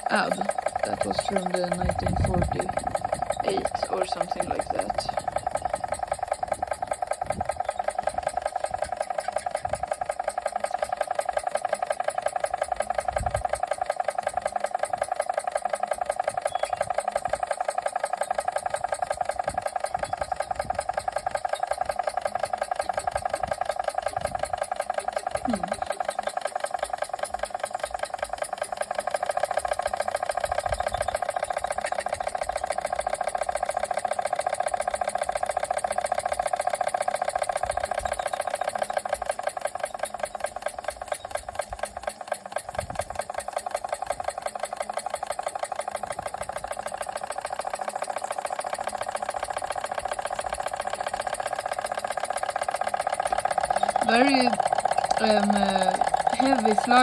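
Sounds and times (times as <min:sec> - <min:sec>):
model steam engine running: 0:00.0 - 0:57.0.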